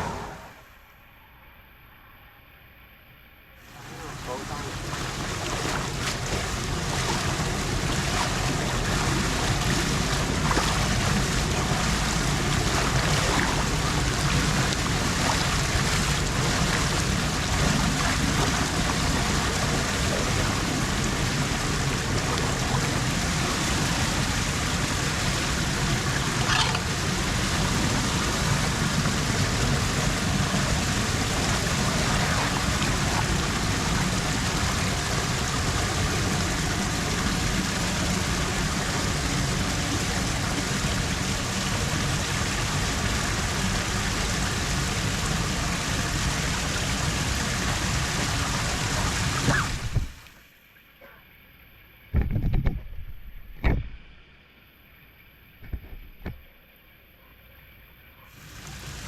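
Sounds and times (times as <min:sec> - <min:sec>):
water running into storm drain: 0:03.6 - 0:50.3, 0:58.3 - 0:59.0.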